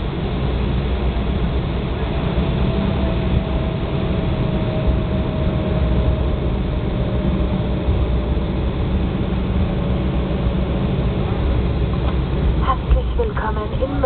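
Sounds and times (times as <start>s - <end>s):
aircraft cabin rumble: 0.0s - 14.0s
faint steady whine: 0.0s - 14.0s.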